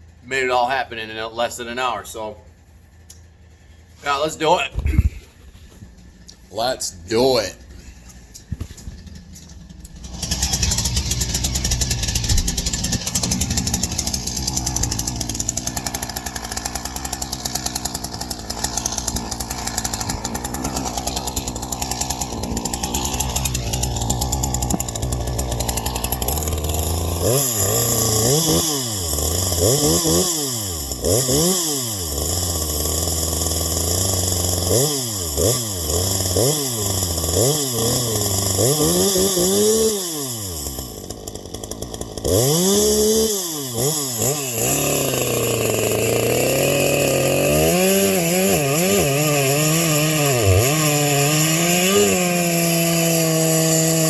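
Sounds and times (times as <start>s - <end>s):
chainsaw cutting wood: 8.4s - 54.0s.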